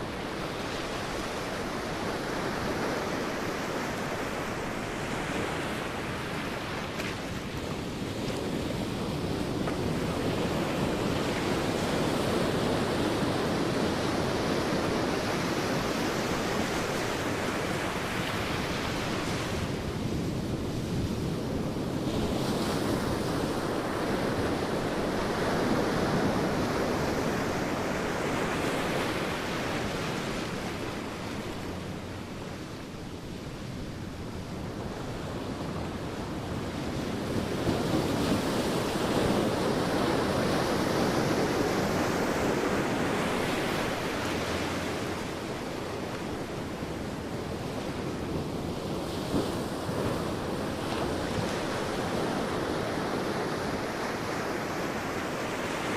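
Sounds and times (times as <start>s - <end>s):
sea waves washing onto beach: 0.0s - 55.9s
wind on microphone: 0.0s - 55.9s.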